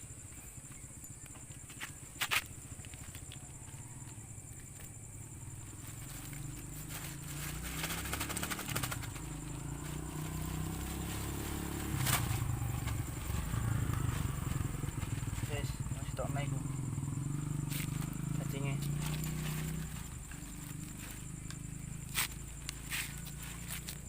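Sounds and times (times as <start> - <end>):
night insects droning: 0.0 - 24.0.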